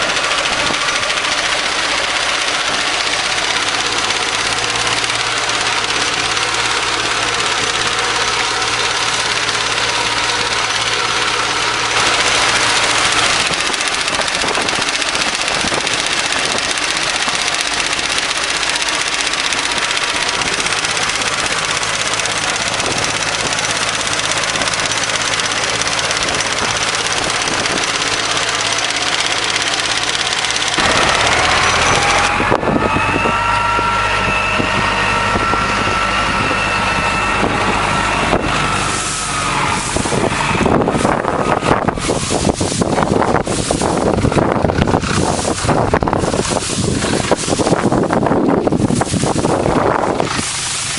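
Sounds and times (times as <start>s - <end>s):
hay mower engine droning: 0.0s - 50.9s.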